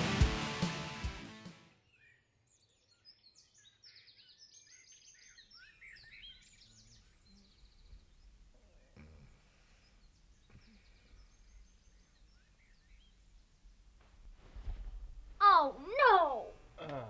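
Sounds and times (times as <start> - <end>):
faint birdsong: 1.8 - 17.0.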